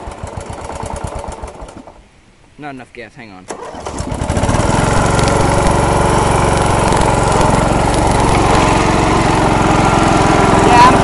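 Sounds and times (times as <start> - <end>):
riding lawnmower engine at high throttle: 0.0 - 2.0, 3.5 - 11.0.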